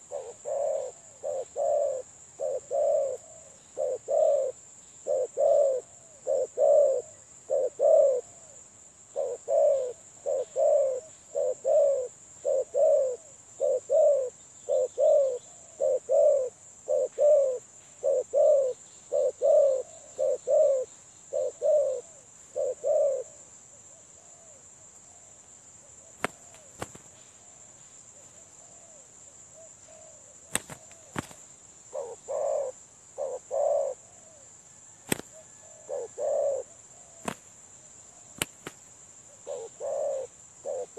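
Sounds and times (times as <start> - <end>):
dove cooing: 0.0 - 23.5, 29.6 - 37.4, 39.3 - 40.9.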